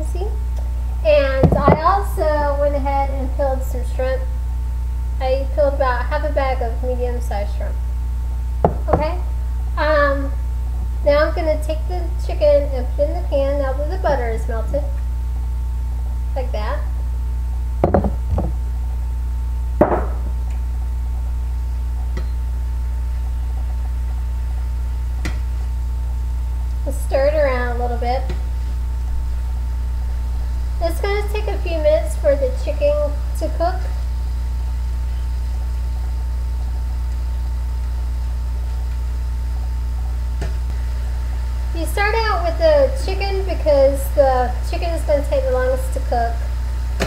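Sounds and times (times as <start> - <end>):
faint high whine: 0.0 - 47.0
low hum: 0.0 - 47.0.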